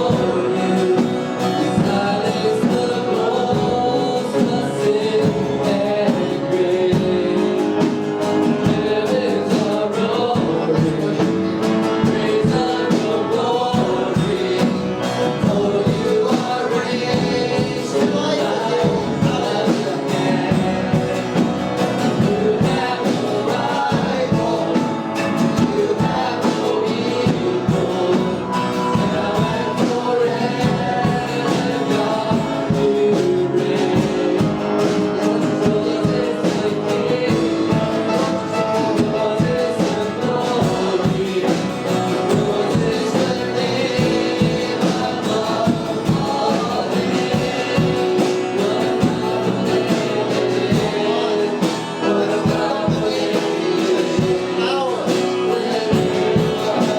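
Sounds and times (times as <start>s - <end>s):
gospel worship band playing: 0.0s - 56.9s
voices singing: 0.0s - 56.9s.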